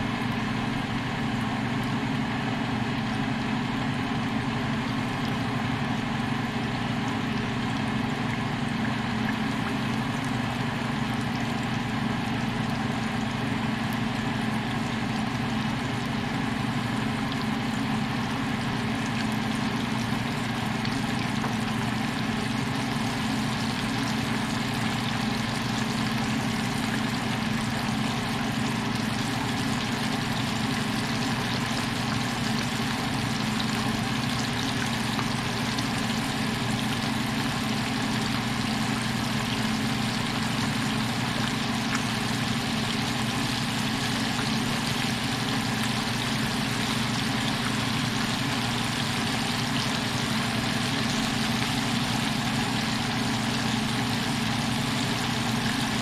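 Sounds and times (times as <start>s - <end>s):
fish deep frying in oil: 0.0s - 56.0s.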